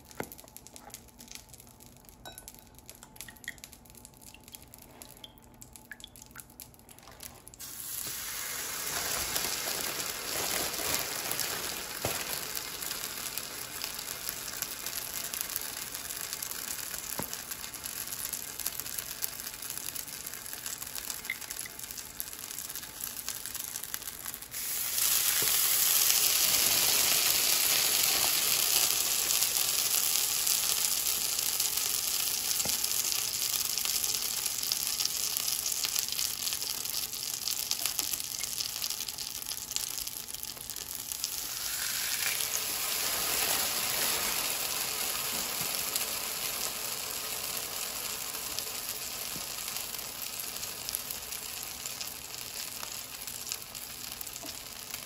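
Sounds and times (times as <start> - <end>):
bread sizzling in butter: 7.0 - 55.0.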